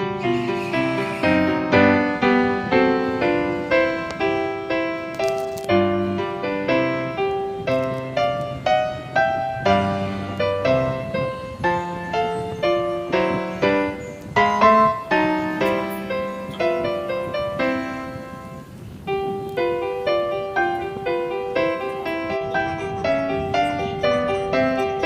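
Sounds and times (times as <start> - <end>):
piano melody: 0.0 - 25.0.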